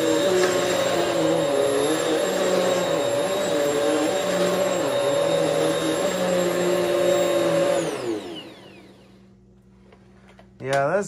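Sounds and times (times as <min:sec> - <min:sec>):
vacuum winding down whine: 0:00.0 - 0:09.2
vacuum cleaner running: 0:00.0 - 0:09.4.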